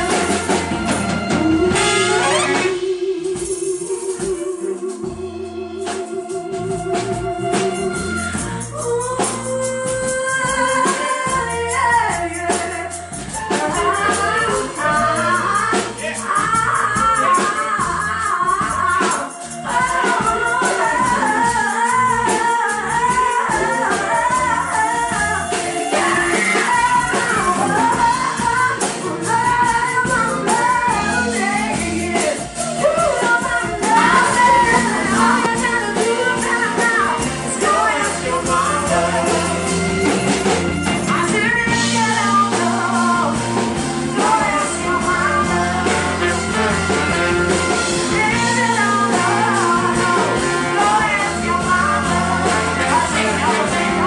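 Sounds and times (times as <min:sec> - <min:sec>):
lead singer singing: 0:00.0 - 0:54.0
soul band playing live: 0:00.0 - 0:54.0.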